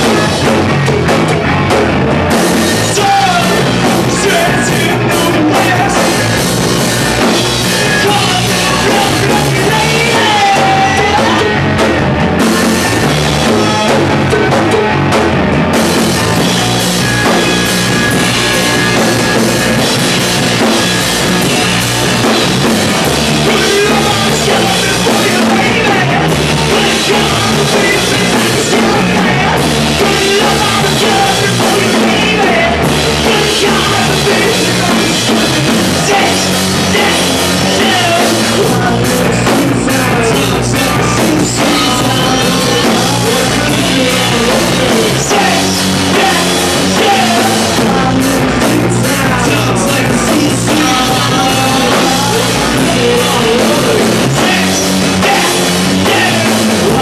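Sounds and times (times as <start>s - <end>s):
rock band playing: 0.0s - 57.0s
person singing: 2.5s - 12.0s, 16.2s - 57.0s.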